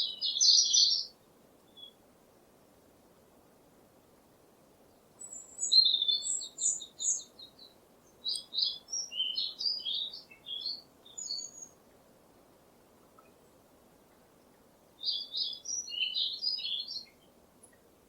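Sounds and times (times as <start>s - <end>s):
songbird singing: 0.0s - 2.0s, 4.8s - 12.1s, 12.8s - 18.0s
faint background hiss: 0.0s - 18.0s.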